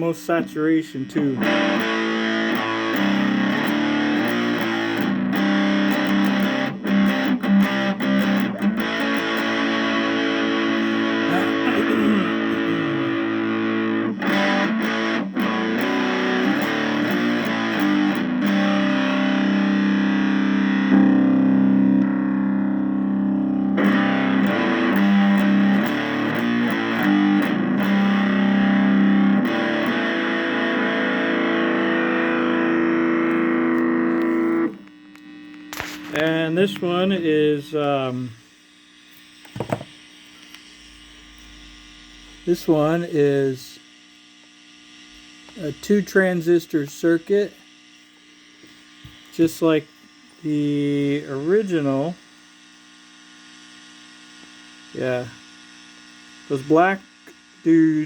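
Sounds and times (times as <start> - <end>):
distorted fuzz electric guitar: 0.0 - 58.0.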